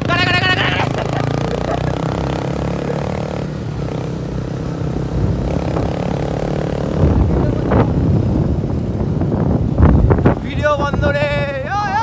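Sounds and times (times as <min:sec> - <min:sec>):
motorcycle engine running: 0:00.0 - 0:11.7
road and wind noise: 0:00.0 - 0:12.0.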